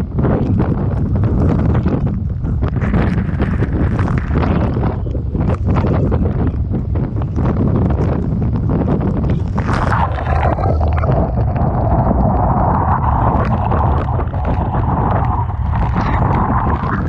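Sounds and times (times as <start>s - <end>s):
scattered crackles: 0.0s - 17.0s
wind buffeting microphone: 0.0s - 17.0s.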